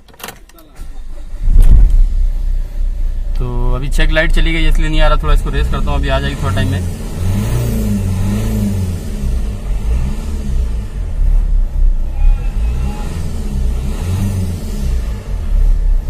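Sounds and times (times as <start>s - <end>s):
car engine revving: 0.8s - 16.0s.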